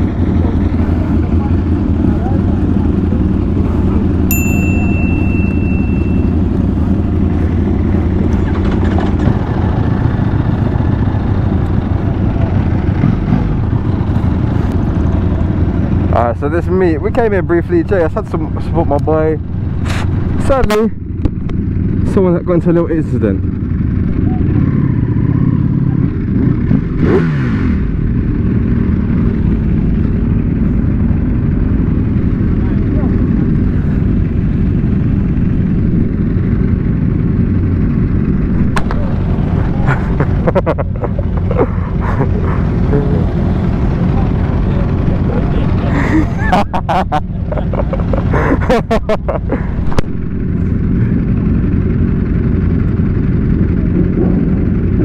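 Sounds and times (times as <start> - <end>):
motorcycle engine idling: 0.0 - 26.9, 27.8 - 55.0.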